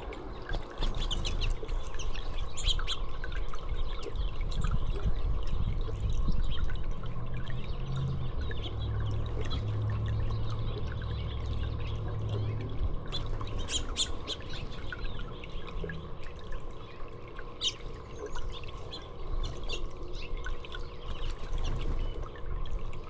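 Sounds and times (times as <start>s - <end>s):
songbirds chirping: 0.0s - 23.0s
water trickling: 0.0s - 23.0s.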